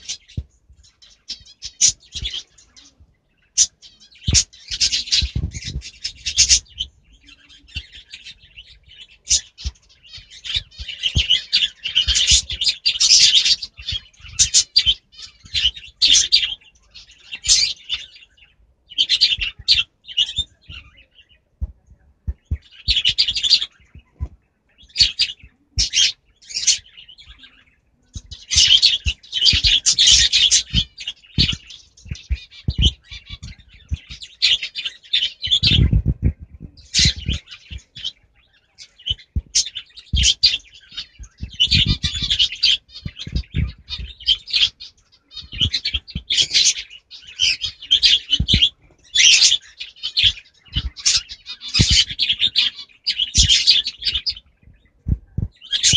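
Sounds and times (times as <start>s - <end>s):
parrots chirping and chattering: 0.0s - 55.9s.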